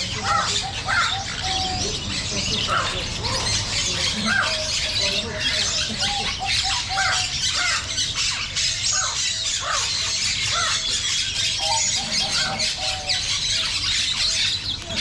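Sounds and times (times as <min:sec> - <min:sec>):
birds squawking and squealing: 0:00.0 - 0:15.0
high bird chirping: 0:00.0 - 0:15.0.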